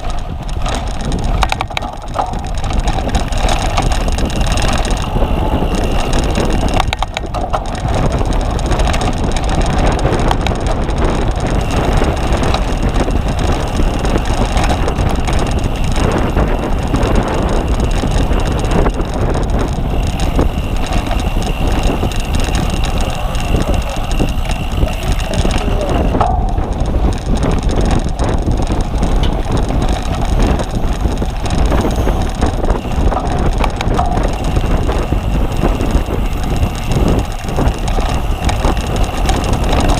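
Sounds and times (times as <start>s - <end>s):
bicycle chain and frame rattling: 0.0s - 39.9s
wind on microphone: 0.0s - 39.9s.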